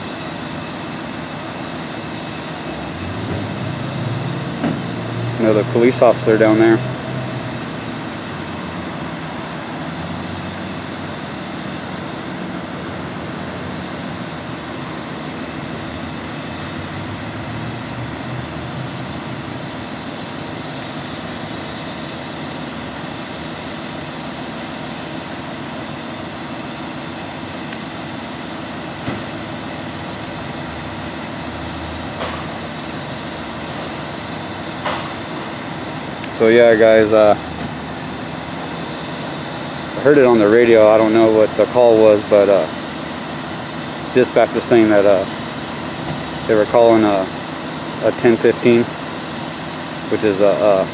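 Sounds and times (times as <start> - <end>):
vehicle engines idling: 0.0 - 50.9.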